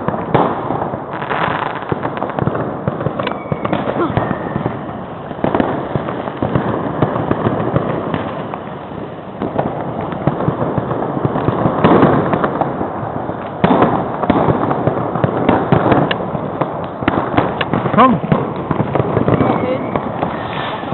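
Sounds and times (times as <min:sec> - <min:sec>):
fireworks and firecrackers crackling: 0:00.0 - 0:20.9.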